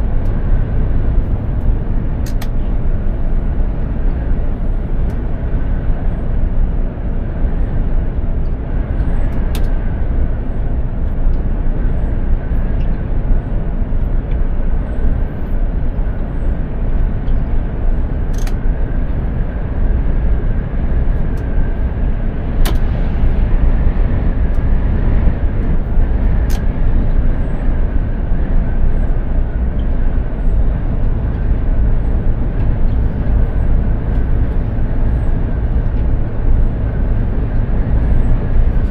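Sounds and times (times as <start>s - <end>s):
faint whine: 0.0s - 38.9s
truck engine and road rumble: 0.0s - 38.9s.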